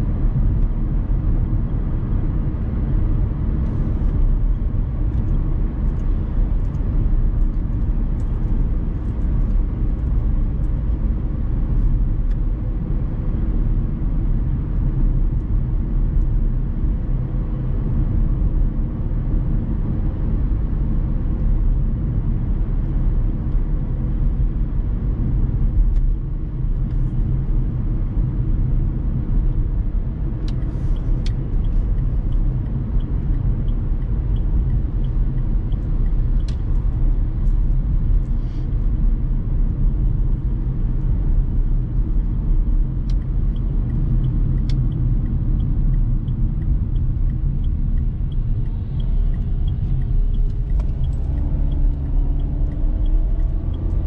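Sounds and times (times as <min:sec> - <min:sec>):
tyres rumbling on road: 0:00.0 - 0:54.0.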